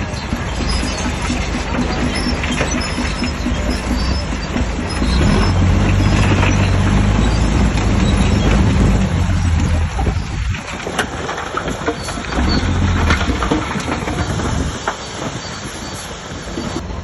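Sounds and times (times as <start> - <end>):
bulldozer diesel engine: 0.0 - 17.0
steel tracks clattering and squealing: 0.0 - 17.0.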